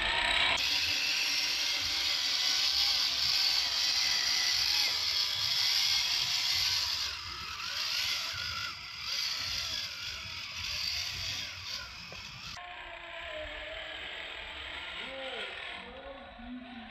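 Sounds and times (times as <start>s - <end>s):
toy car motor whining: 0.0s - 16.9s.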